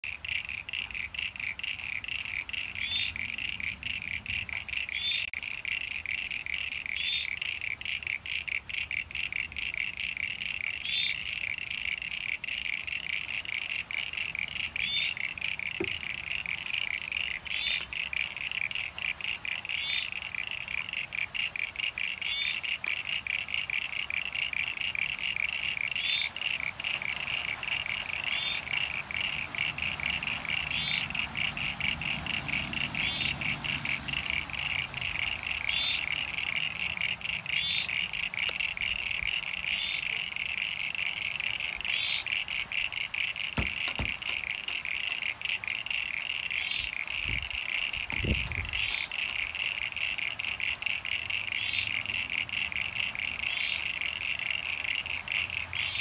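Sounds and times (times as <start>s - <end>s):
frogs chirping chorus: 0.0s - 56.0s.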